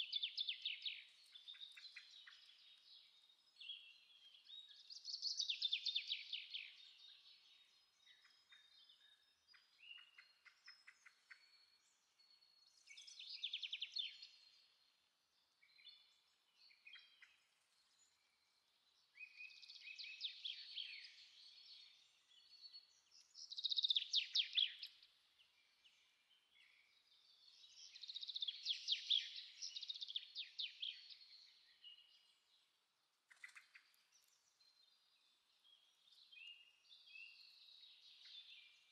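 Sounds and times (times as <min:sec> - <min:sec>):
soft bird chirps: 0:00.0 - 0:38.9.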